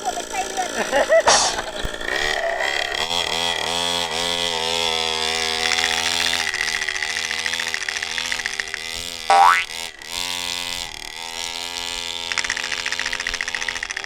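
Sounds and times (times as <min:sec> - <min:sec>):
two-stroke dirt bike engine revving: 0:00.0 - 0:14.0.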